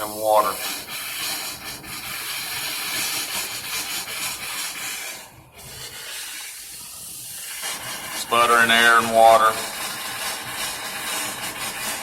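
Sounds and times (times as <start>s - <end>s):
sprinkler port sputtering air and water: 0.0s - 12.0s.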